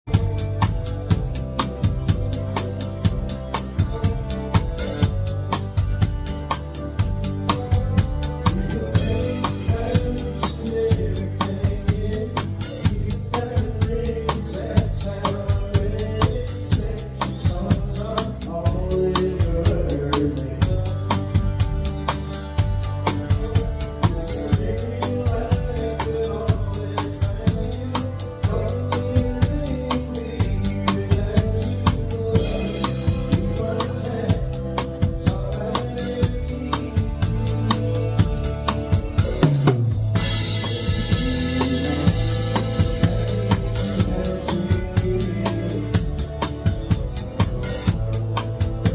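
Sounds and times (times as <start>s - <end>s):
live country band playing: 0.0s - 48.9s
snare and bass drum: 0.1s - 48.9s.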